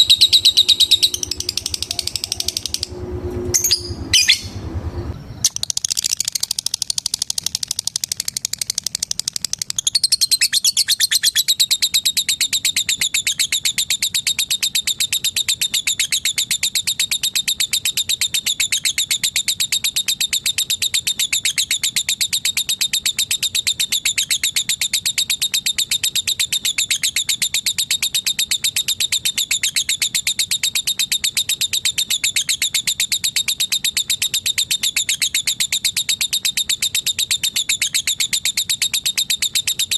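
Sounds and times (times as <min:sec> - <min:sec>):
lovebird trilling: 0:00.0 - 0:04.6, 0:05.4 - 0:39.9.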